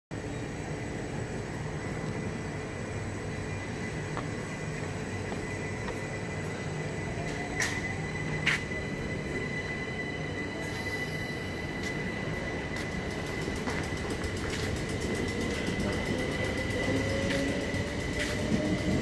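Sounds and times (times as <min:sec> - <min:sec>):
train rumbling past: 0:00.2 - 0:19.0
thin high whine: 0:01.4 - 0:19.0.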